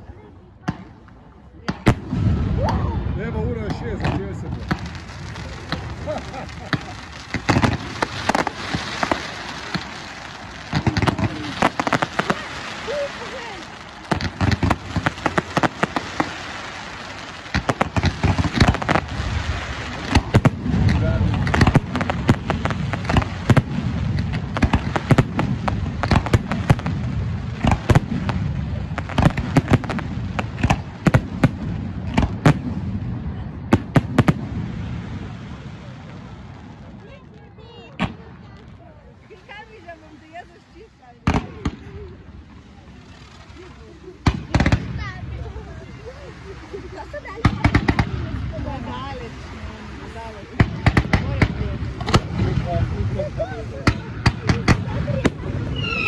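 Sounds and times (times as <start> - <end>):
continuous crackling hiss: 0.0 - 56.0
fireworks bangs and crackles: 0.2 - 56.0.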